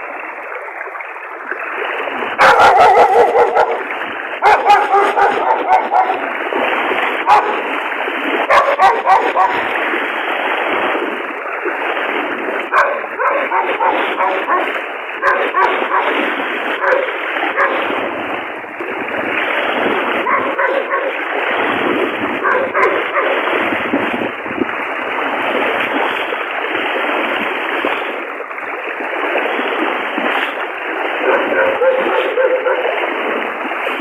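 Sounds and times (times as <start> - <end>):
rushing floodwater: 0.0 - 34.0.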